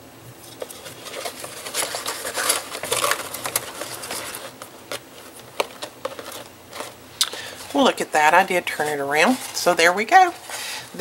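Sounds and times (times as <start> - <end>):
ribbon and paper box crinkling: 0.5 - 11.0.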